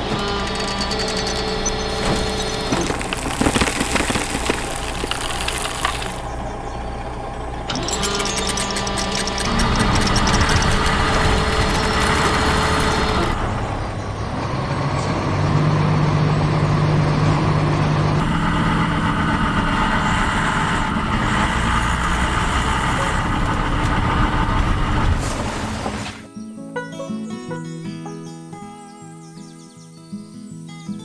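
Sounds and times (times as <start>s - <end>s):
heavy engine running: 0.0s - 26.3s.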